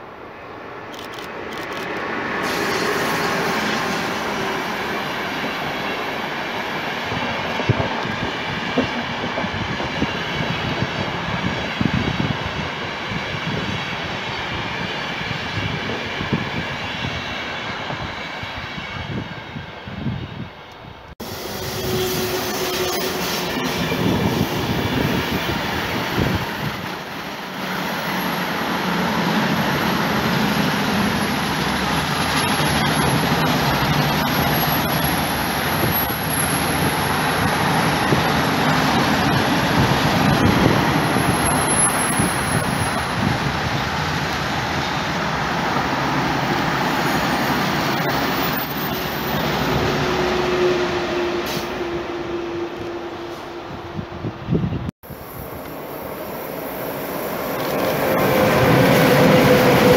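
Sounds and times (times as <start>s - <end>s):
train wheels rumbling on rails: 0.9s - 59.9s.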